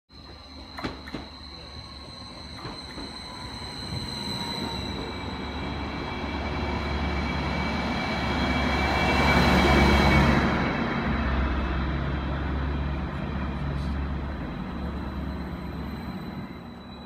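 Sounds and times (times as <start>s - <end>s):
high-pitched train whine: 0.1s - 17.0s
train rumbling past: 0.1s - 17.0s.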